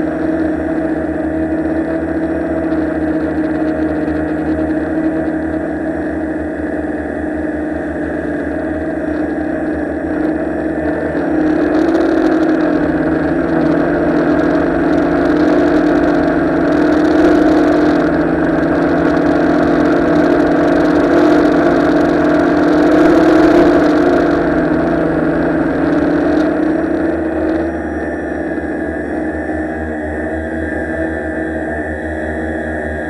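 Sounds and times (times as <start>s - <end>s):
drone motors and propellers: 0.0s - 33.0s.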